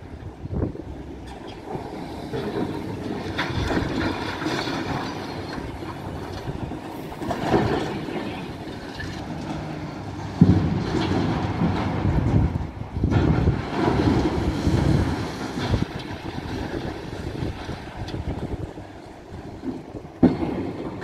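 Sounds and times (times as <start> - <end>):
demolition machinery rumble: 0.0 - 21.0.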